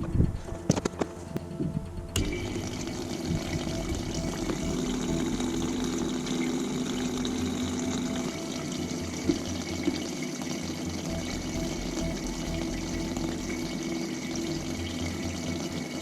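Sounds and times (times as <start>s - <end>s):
aquarium pump humming: 1.1s - 16.0s.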